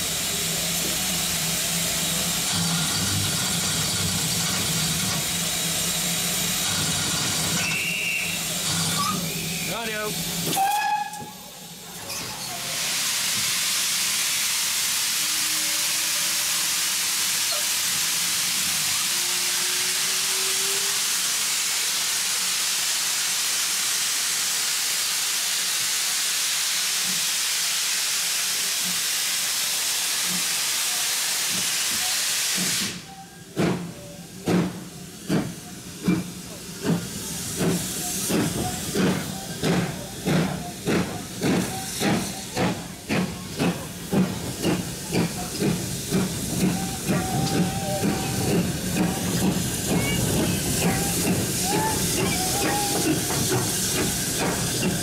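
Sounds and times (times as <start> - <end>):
steam hissing: 0.0 - 55.0.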